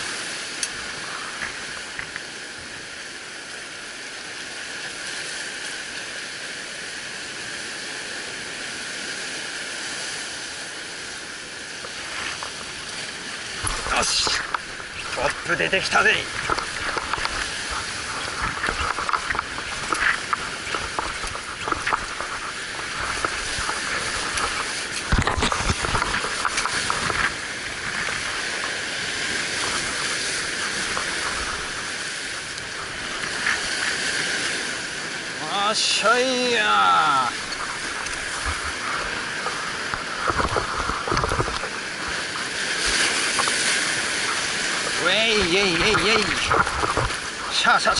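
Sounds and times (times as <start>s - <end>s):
surf washing over rocks: 0.0s - 47.9s.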